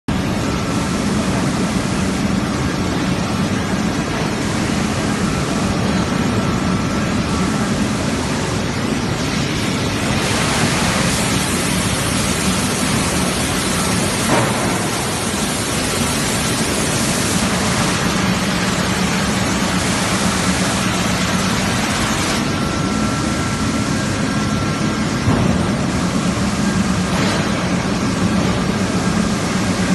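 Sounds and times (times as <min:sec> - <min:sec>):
high whine: 0:00.1 - 0:29.9
low machinery hum: 0:00.1 - 0:29.9.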